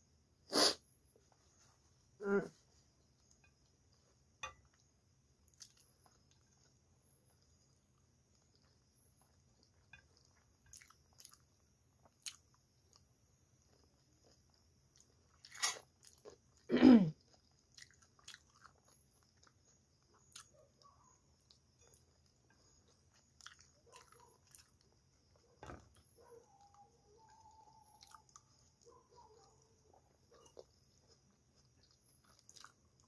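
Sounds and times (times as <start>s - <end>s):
close-up chewing of soft pasta: 1.0s - 33.0s.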